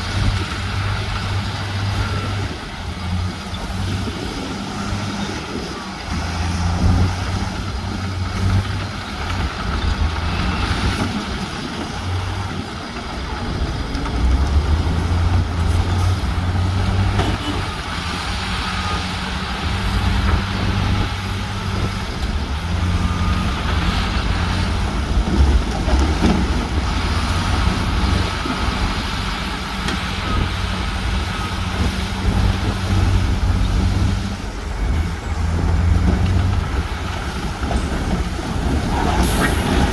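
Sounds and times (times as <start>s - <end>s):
heavy diesel machinery engines: 0.0s - 39.9s.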